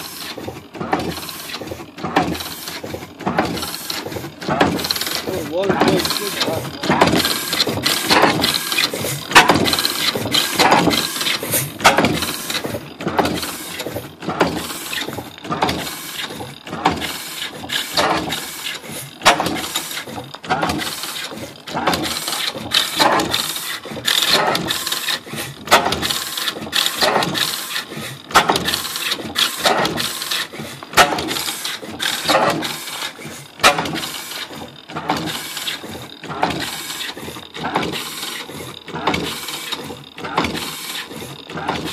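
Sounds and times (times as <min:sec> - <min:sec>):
stationary engine running: 0:00.0 - 0:41.9.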